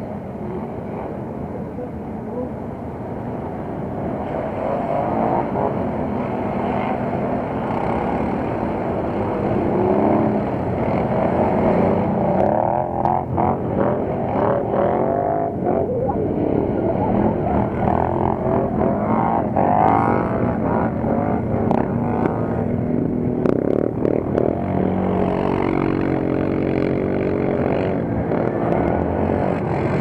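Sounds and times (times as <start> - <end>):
quad bike engines revving: 0.0 - 30.0.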